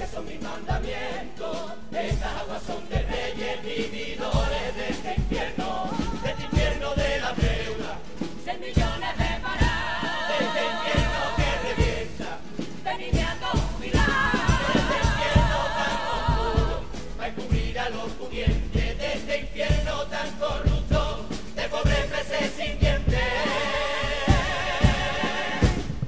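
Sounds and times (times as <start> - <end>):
choir singing in harmony: 0.0 - 26.0
spanish guitars: 0.0 - 26.0
steady drum beat: 0.0 - 26.0.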